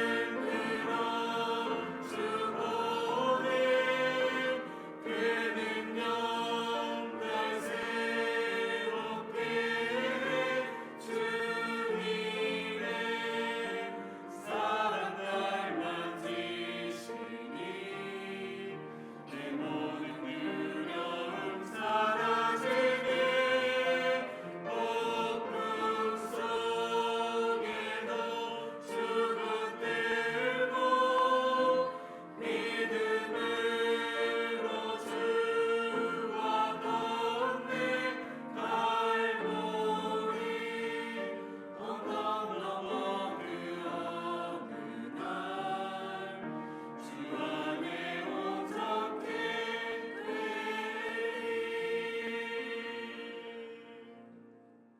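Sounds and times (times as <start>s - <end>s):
choir singing worship song: 0.0s - 54.6s.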